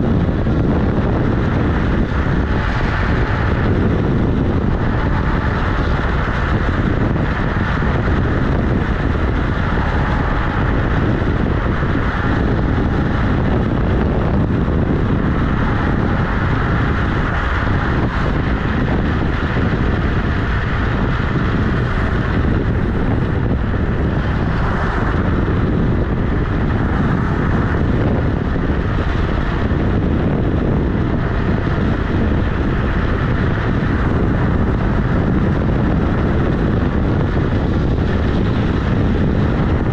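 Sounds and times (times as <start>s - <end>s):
tyre rumbling on asphalt: 0.0s - 39.9s
wind noise on microphone: 0.0s - 39.9s.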